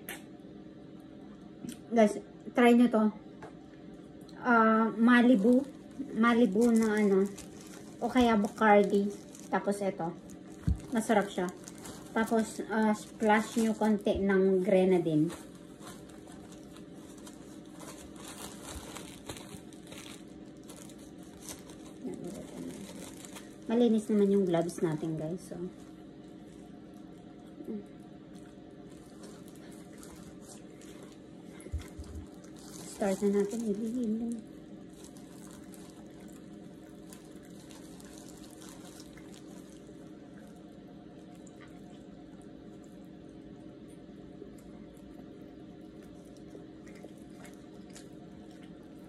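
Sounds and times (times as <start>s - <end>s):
low background hum: 0.0s - 49.0s
plastic gloves crinkling: 4.5s - 49.0s
chicken skin and meat crackling: 4.9s - 49.0s.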